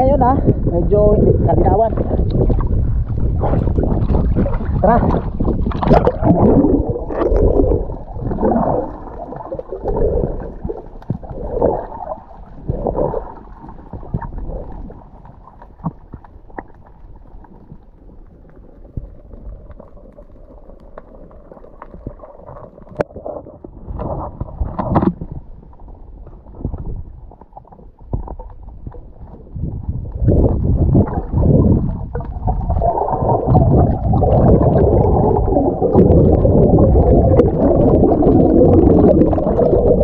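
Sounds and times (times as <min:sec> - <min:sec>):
water splashing and bubbling: 0:00.0 - 0:40.0.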